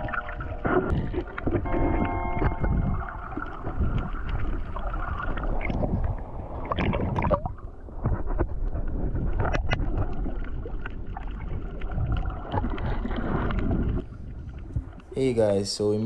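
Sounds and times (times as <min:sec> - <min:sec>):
underwater clicks and crackles: 0:00.0 - 0:15.2
underwater rumble: 0:00.0 - 0:15.8
water sloshing and bubbling: 0:00.0 - 0:16.0.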